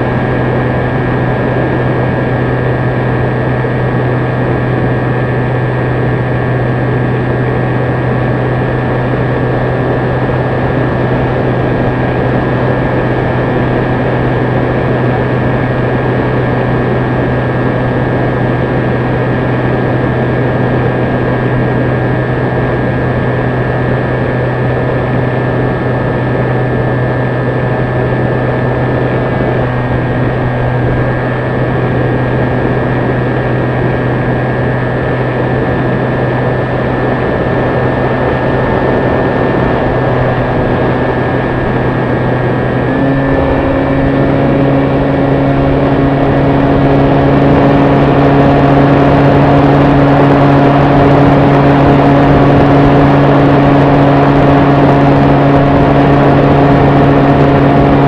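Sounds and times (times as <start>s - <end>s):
rc plane motor drone: 0.0s - 58.0s.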